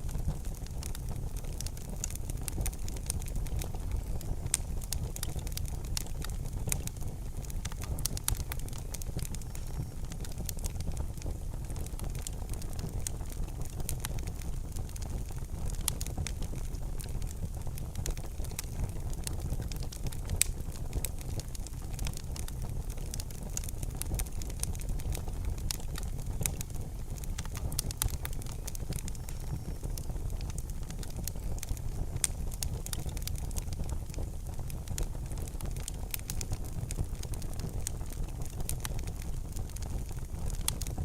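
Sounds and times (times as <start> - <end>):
low fire rumble: 0.0 - 41.0
wood fire crackling and popping: 0.0 - 41.0.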